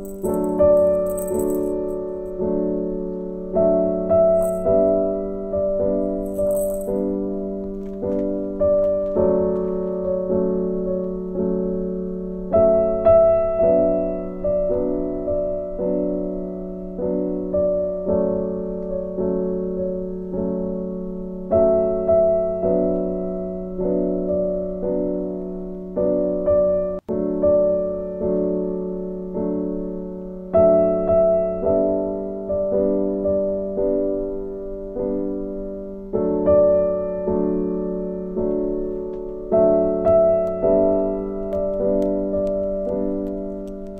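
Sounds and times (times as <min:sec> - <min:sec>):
soft piano melody: 0:00.0 - 0:43.9.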